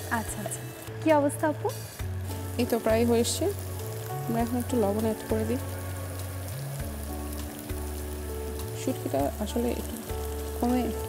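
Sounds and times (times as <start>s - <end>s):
background music with bass notes: 0.0s - 11.0s
curry sizzling in a frying pan: 0.0s - 11.0s.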